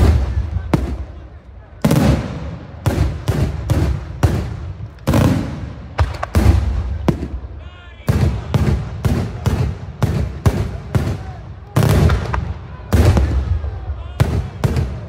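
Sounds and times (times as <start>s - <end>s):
low rumbling echo: 0.0s - 15.0s.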